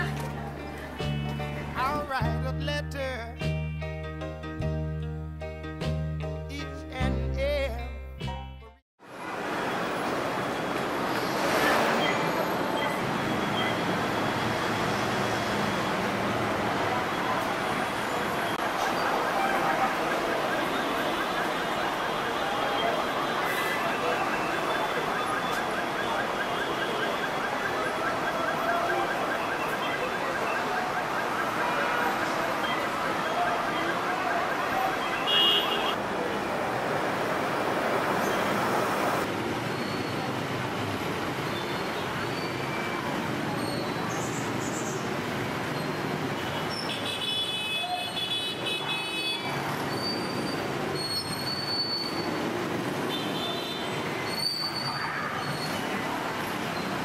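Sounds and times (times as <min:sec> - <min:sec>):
city street traffic: 0:00.0 - 0:57.0.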